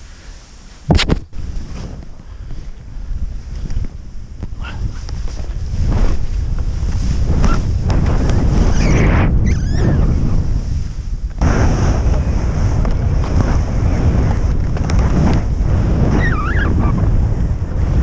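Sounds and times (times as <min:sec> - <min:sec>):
skis hissing through powder snow: 0:00.0 - 0:03.9, 0:04.6 - 0:18.0
wind buffeting microphone: 0:00.9 - 0:18.0.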